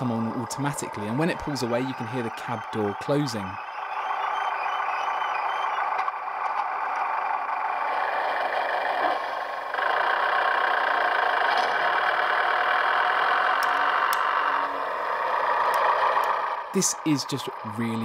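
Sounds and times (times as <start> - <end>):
diesel engine from small speaker: 0.0 - 18.0.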